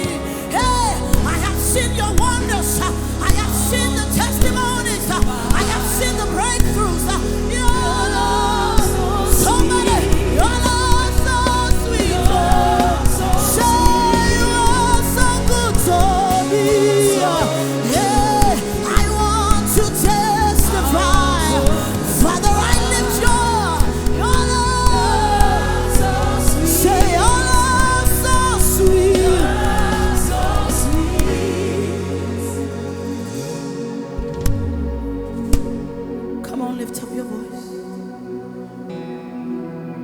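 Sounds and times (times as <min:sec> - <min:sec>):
gospel singing with band: 0:00.0 - 0:39.3.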